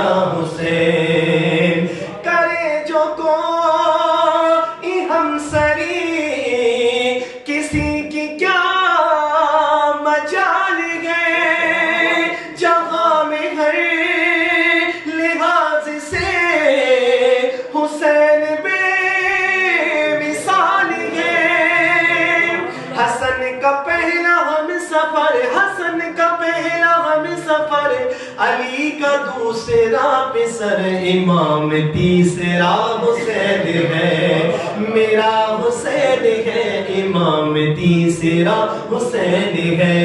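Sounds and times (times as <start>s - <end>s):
man singing unaccompanied: 0.0s - 40.0s.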